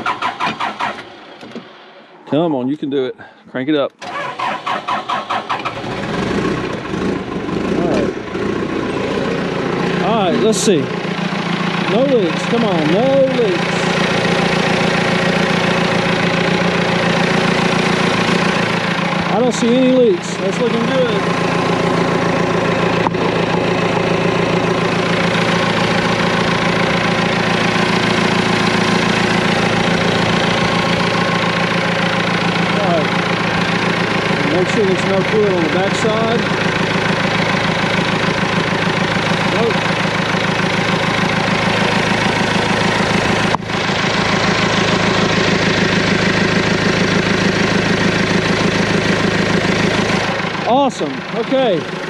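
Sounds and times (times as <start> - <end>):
diesel engine idling: 0.0 - 52.0.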